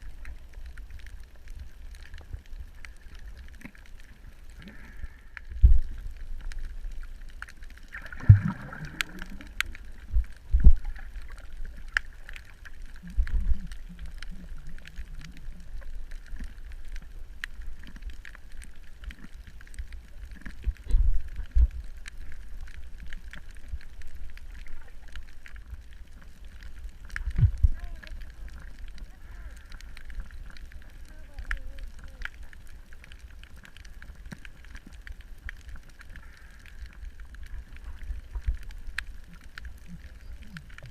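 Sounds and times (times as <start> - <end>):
bubbling: 0.0 - 40.9
deep underwater rumble: 0.0 - 40.9
faint clicks: 0.0 - 40.9.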